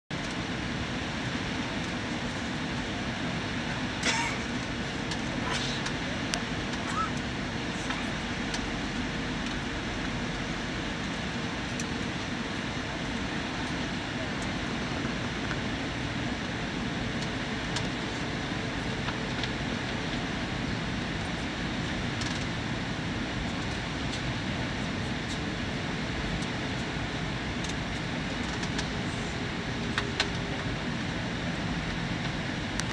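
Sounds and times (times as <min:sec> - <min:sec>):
jet engines droning: 0:00.1 - 0:32.9.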